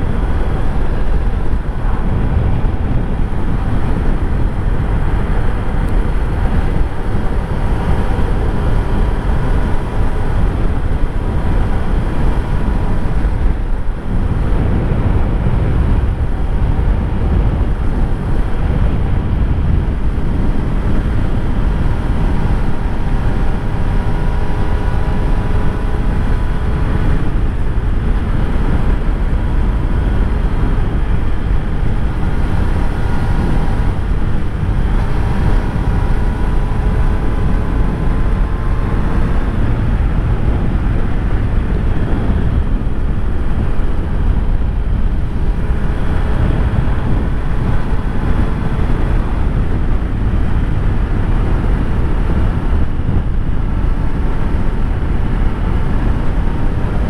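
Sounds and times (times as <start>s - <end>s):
faint motorcycle engine: 0.0s - 57.0s
wind rush on microphone: 0.0s - 57.0s.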